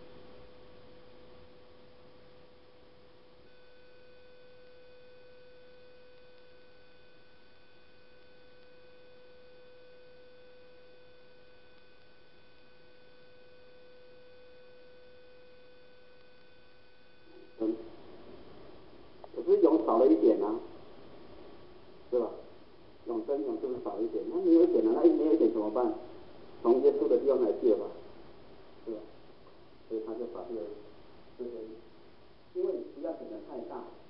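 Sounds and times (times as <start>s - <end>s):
faint electrical hum: 0.0s - 34.0s.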